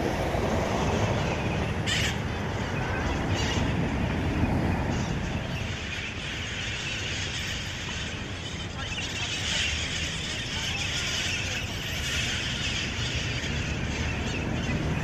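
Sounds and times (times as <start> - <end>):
street traffic noise: 0.0 - 15.0
parakeets screeching: 0.8 - 15.0.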